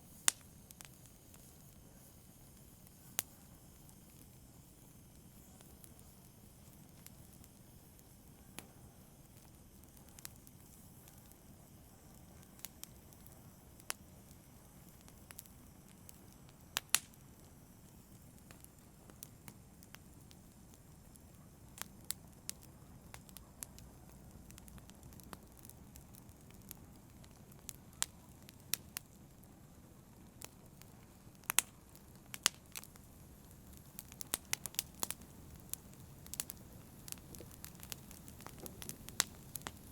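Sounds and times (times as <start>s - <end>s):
campfire low rumble: 0.0s - 39.9s
wood crackling and popping: 0.1s - 39.9s.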